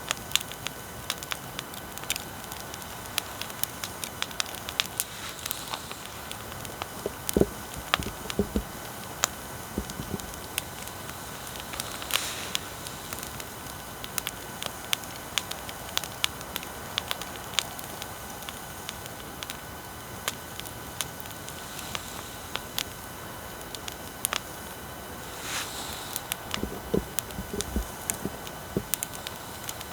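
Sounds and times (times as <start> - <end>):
bonfire crackling and popping: 0.0 - 29.9.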